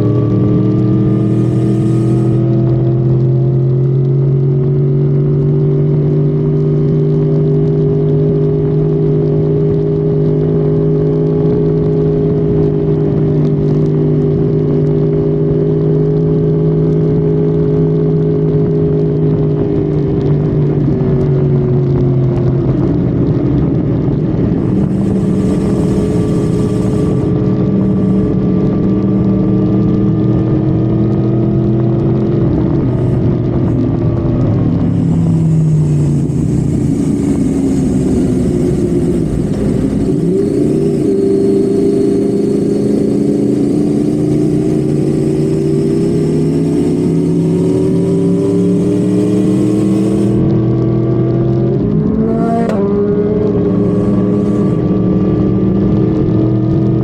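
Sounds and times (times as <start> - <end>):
car engine at high revs: 0.0 - 57.0
road and wind noise: 0.0 - 57.0.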